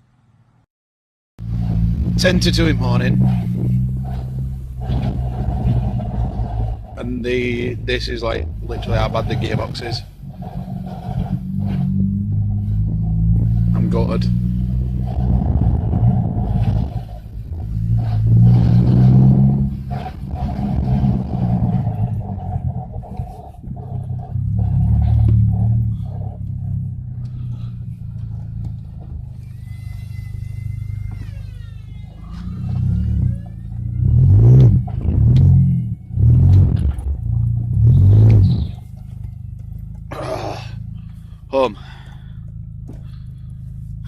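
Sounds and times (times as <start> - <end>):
car engine accelerating: 1.4 - 44.0
gearbox whine: 1.4 - 44.0.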